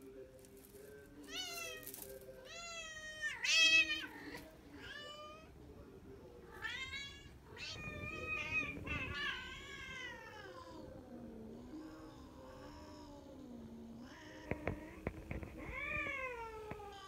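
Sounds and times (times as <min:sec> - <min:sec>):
cats yowling: 0:01.3 - 0:05.6, 0:06.5 - 0:17.0.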